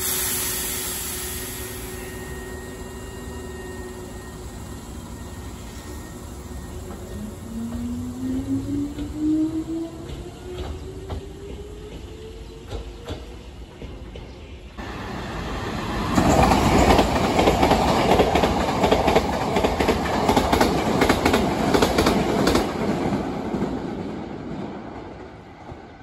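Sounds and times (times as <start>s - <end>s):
electric train passing at speed: 0.0s - 26.0s.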